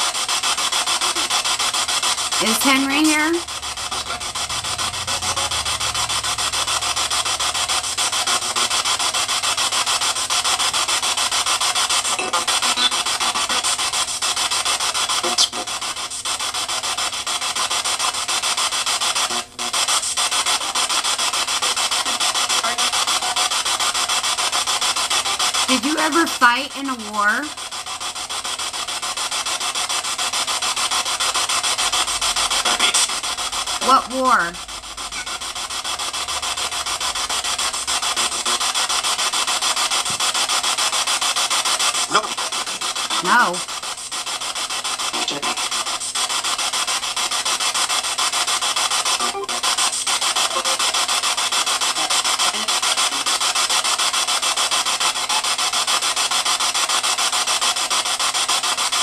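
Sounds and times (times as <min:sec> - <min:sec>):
pulsing radio static hiss: 0:00.0 - 0:59.0.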